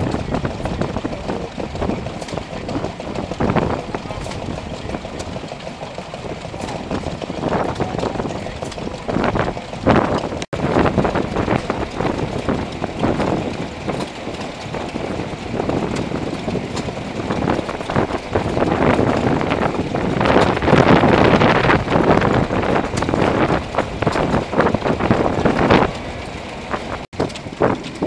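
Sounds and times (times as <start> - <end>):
stationary engine knocking: 0.0 - 28.0
wind on microphone: 0.0 - 28.0.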